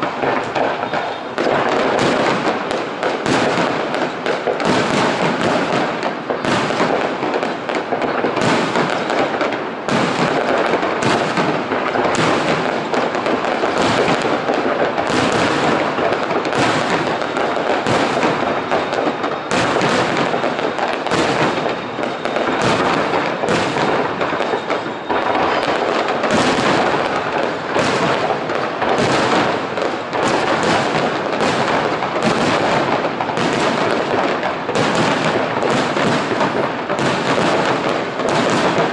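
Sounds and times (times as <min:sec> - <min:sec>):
aerial fireworks bursting and crackling: 0:00.0 - 0:38.9.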